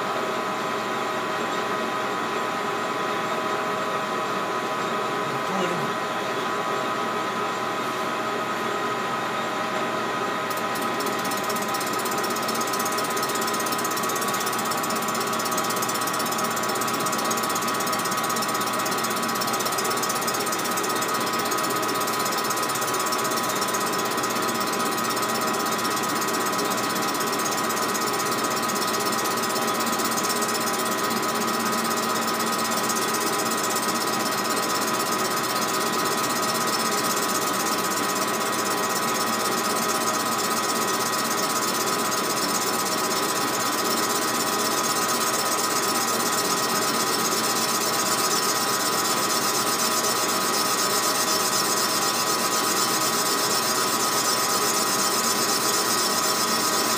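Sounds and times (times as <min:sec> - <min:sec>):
metal lathe whining: 0:10.5 - 0:56.9.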